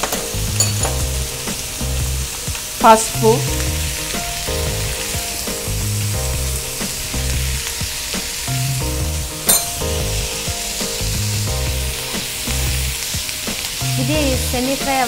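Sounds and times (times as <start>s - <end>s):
soft background music: 0.0s - 15.0s
vegetables sizzling in a pan: 0.0s - 15.0s.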